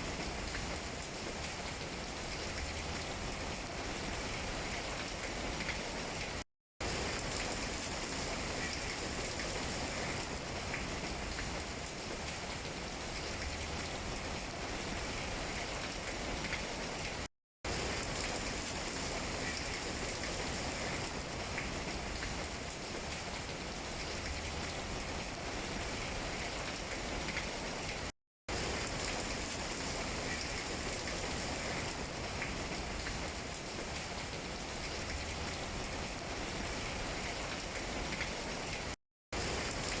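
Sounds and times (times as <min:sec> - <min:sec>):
rain falling on leaves: 0:00.0 - 0:40.0.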